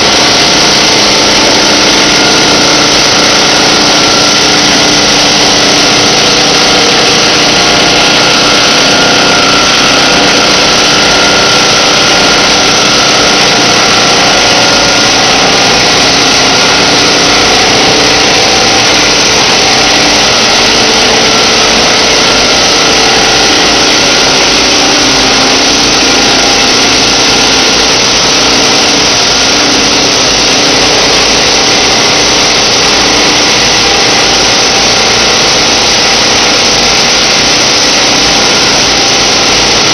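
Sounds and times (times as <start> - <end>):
conveyor machinery din: 0.0 - 39.9.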